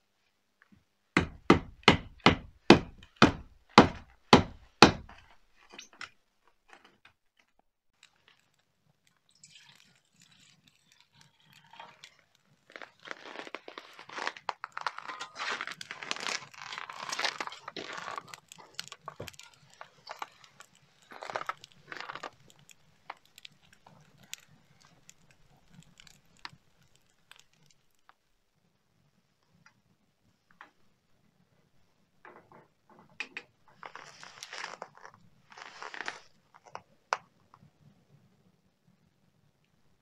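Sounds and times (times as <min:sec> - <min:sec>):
wood fire crackling: 0:01.2 - 0:06.8, 0:07.5 - 0:32.0, 0:33.6 - 0:38.6.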